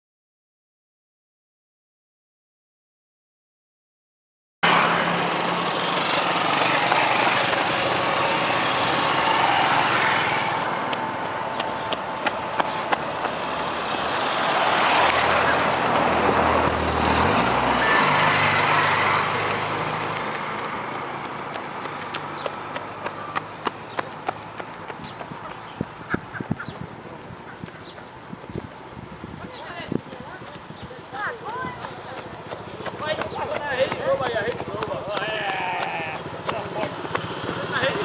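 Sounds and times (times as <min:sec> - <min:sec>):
vehicle engines running: 0:04.6 - 0:38.0
tyre and wind noise: 0:06.0 - 0:37.8.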